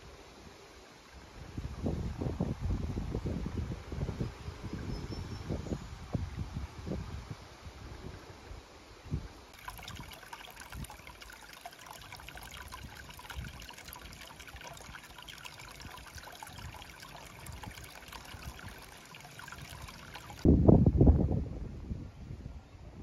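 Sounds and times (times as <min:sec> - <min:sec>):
thin stream of water trickling: 0:00.0 - 0:20.5.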